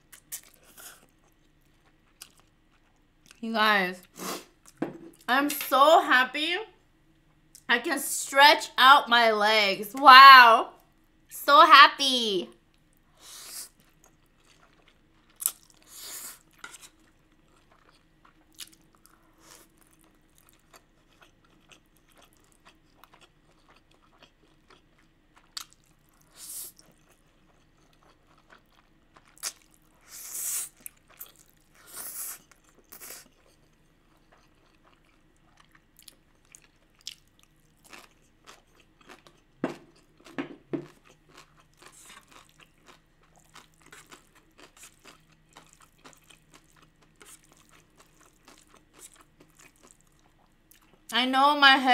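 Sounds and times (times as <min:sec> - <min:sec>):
soft chewing: 0:00.0 - 0:03.4, 0:12.5 - 0:51.1.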